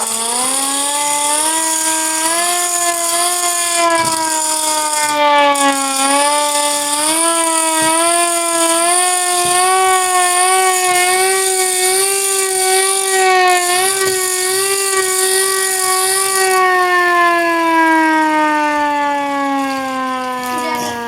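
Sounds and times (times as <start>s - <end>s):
tornado warning siren: 0.0s - 21.0s.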